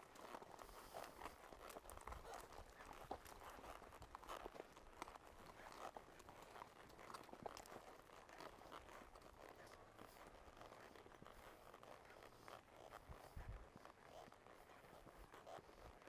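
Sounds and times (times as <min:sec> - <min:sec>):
horse hooves crunching on trail: 0:00.0 - 0:16.0.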